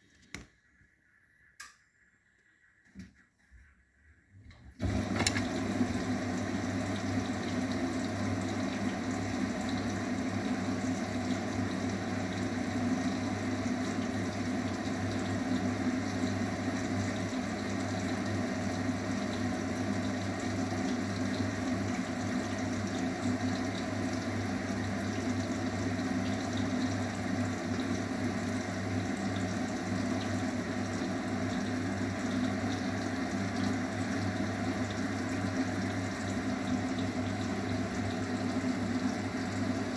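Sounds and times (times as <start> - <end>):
washing machine water rushing: 4.5 - 39.9.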